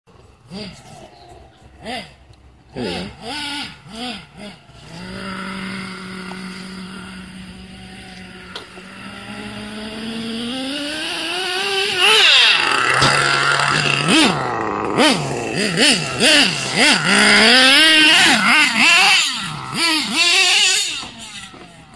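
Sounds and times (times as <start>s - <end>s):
rc truck engine revving: 0.2s - 21.9s.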